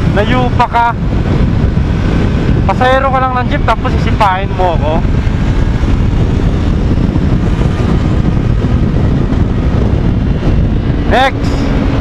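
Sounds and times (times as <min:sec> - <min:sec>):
motorcycle engine: 0:00.0 - 0:12.0
road noise: 0:00.0 - 0:12.0
wind rush on microphone: 0:00.0 - 0:12.0.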